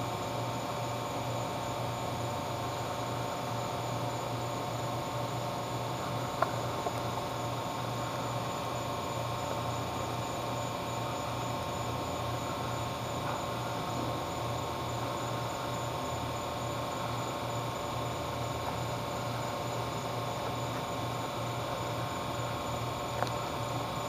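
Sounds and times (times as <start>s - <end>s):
electrical hum and hiss: 0.0s - 24.0s.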